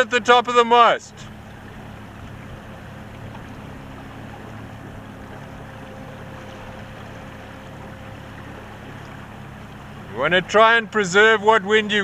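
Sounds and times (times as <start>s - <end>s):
water noise: 0.0s - 12.0s
low steady hum: 0.2s - 12.0s.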